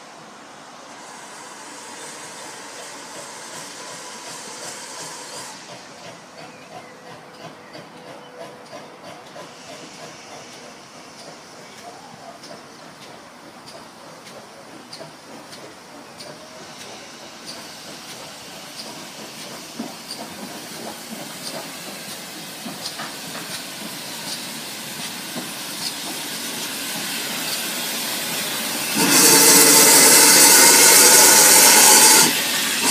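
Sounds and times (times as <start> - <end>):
steam hissing: 0.0 - 32.9
steam locomotive: 0.0 - 32.9.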